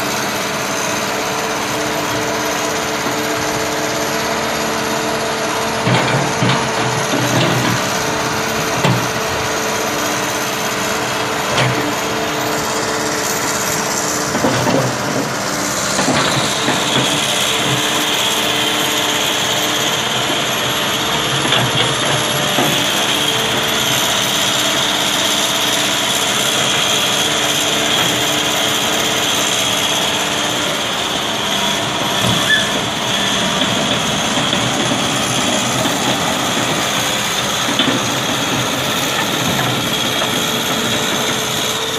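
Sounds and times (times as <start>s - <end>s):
backhoe engine running: 0.0s - 41.9s.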